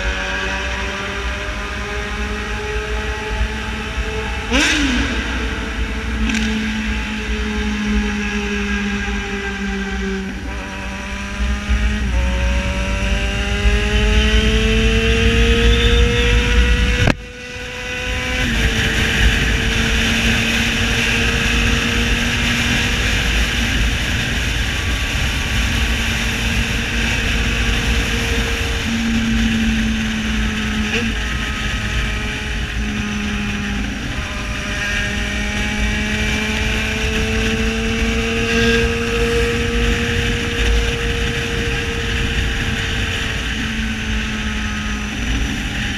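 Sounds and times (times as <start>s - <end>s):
motorcycle engine running loud: 0.0s - 45.9s
wind and road rush: 0.0s - 45.9s.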